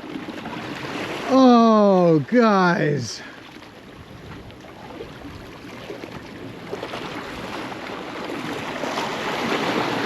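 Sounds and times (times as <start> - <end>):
waves on rocks: 0.0 - 10.0.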